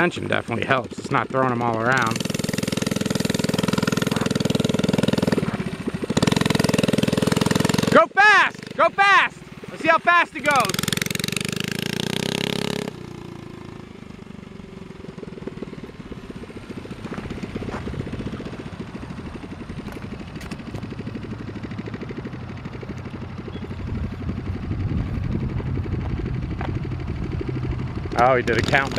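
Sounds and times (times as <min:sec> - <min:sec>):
mini bike engine running: 0:00.0 - 0:28.9.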